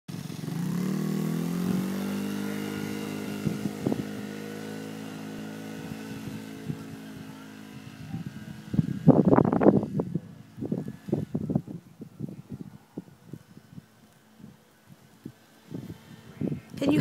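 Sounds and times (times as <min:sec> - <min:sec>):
small atv engine pulling away: 0:00.1 - 0:17.0.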